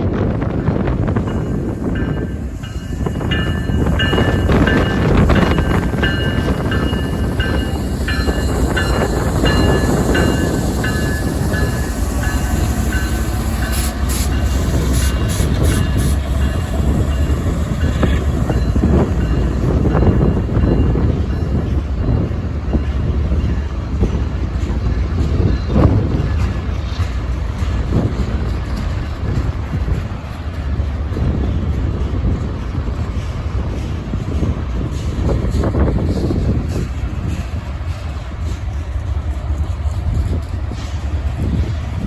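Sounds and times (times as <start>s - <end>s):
freight train rumbling: 0.0s - 42.0s
wind buffeting microphone: 0.0s - 42.0s.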